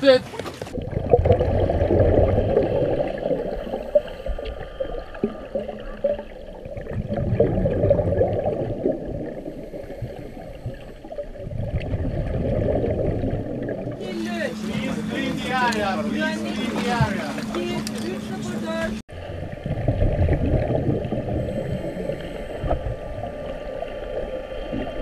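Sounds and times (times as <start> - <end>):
muffled water sloshing and gurgling: 0.3 - 25.0.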